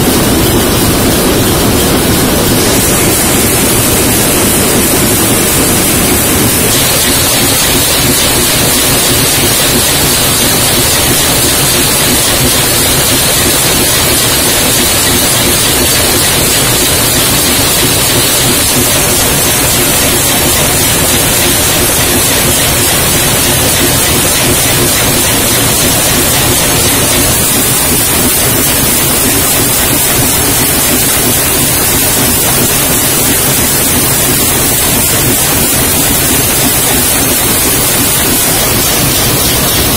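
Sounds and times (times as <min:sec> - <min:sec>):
can-making machinery running: 0:00.0 - 0:39.9.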